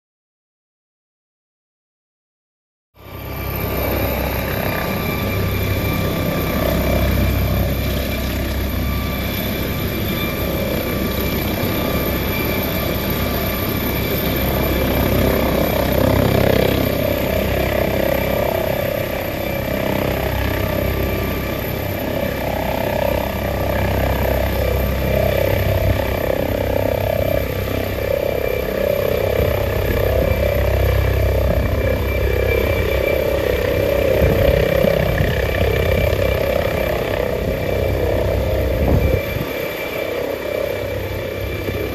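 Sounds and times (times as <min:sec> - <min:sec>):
helicopter rotor and turbine whine: 0:03.0 - 0:41.9.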